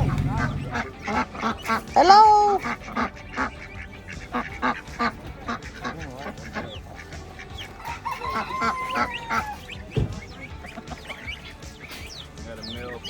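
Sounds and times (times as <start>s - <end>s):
poultry clucking and squawking: 0.0s - 13.0s.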